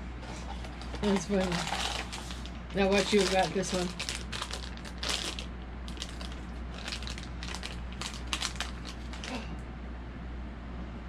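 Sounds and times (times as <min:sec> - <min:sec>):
plastic bag crinkling: 0:00.4 - 0:09.5.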